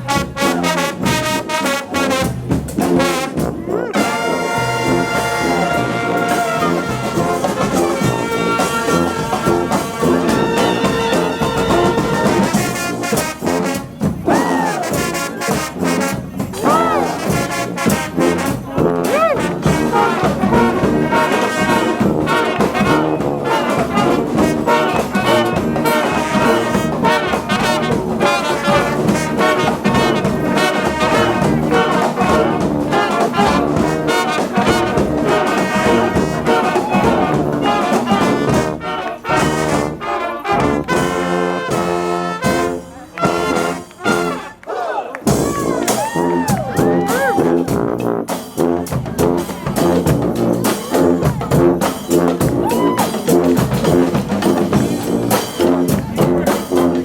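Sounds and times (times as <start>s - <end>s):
brass marching band playing: 0.0s - 57.0s.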